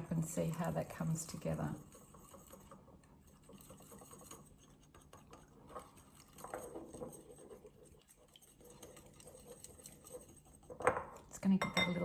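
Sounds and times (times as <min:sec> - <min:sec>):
whisk ticking against bowl: 0:00.0 - 0:12.0.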